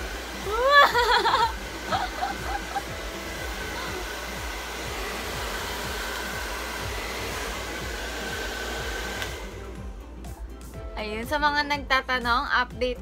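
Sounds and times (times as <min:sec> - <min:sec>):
hair dryer blowing: 0:00.0 - 0:12.5.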